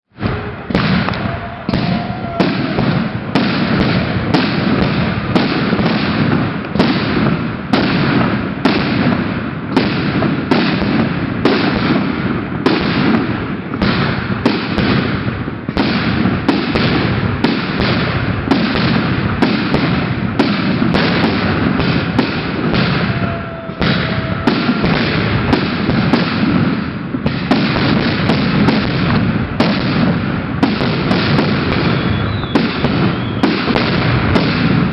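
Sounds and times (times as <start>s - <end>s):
fireworks bangs and booms: 0.1s - 34.9s.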